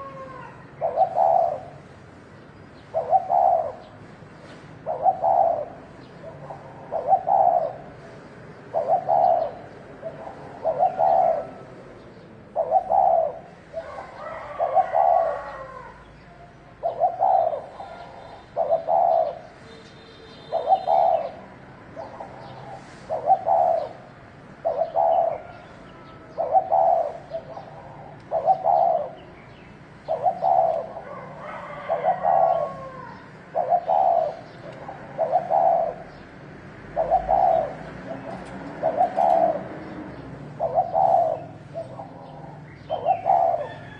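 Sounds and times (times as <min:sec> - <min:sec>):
dove cooing: 0:00.0 - 0:02.0, 0:02.8 - 0:16.1, 0:16.7 - 0:19.7, 0:20.3 - 0:43.9.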